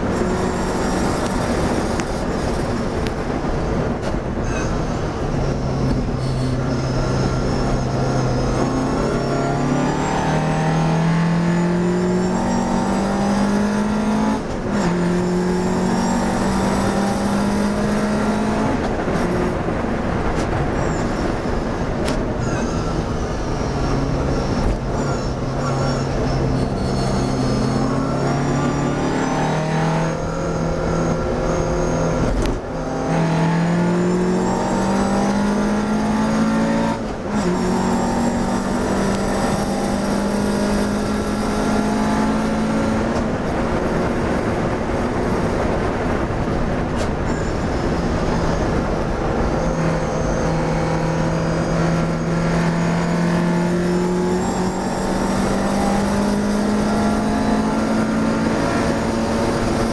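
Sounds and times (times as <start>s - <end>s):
racing car engine at full throttle: 0.0s - 59.9s.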